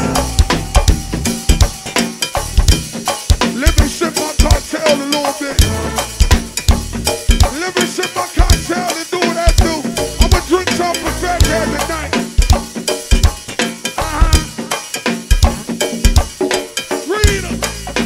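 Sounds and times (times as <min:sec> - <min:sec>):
go-go band music: 0:00.0 - 0:18.0.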